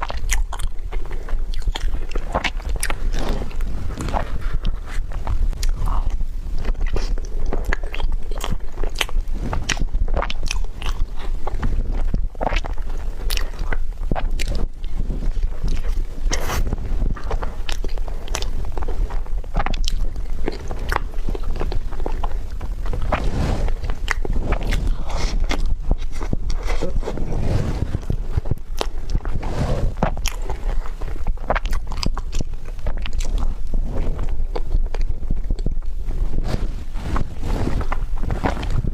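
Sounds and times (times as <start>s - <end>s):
chewing and biting: 0.0s - 38.9s.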